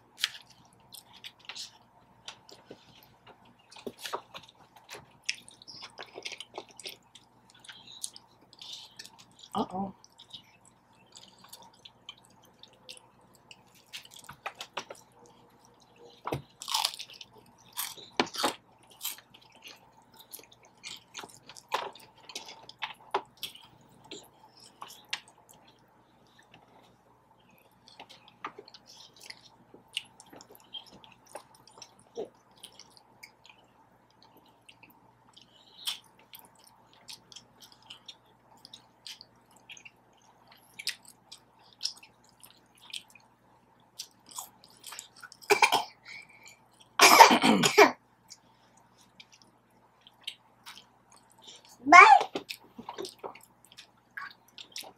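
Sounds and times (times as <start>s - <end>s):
wet chewing and mouth smacks: 0.2s - 45.5s, 48.2s - 54.9s.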